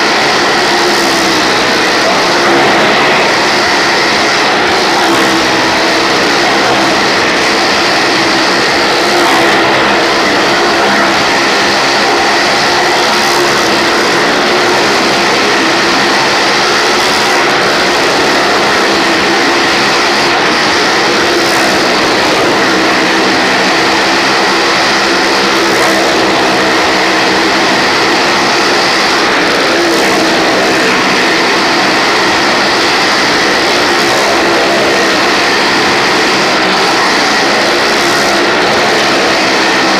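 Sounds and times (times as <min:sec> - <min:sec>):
loud engine drone: 0:00.0 - 0:39.9.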